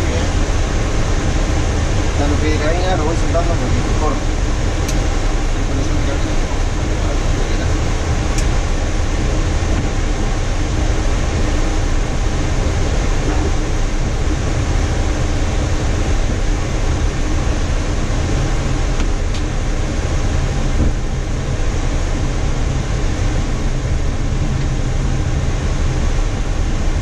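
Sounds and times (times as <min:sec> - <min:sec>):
jet engines idling rumble: 0:00.0 - 0:27.0.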